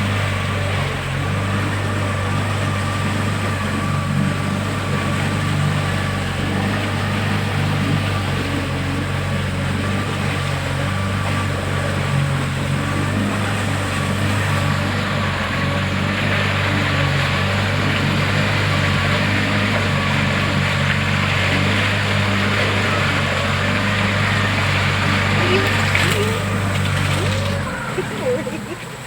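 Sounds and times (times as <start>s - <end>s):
motorboat engine humming: 0.0s - 29.0s.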